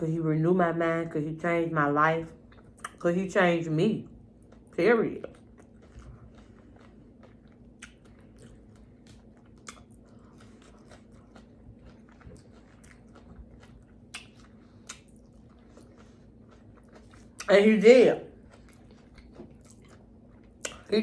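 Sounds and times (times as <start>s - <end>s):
person chewing food: 2.4s - 3.0s, 4.1s - 20.9s.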